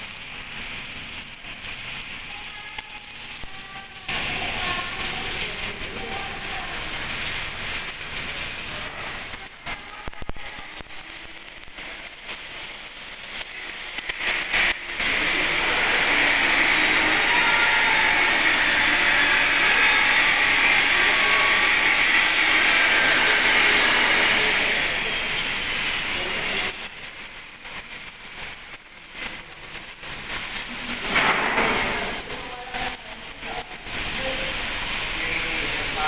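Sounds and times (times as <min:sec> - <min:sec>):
loud steady hissing: 0:03.9 - 0:28.5, 0:29.1 - 0:36.0.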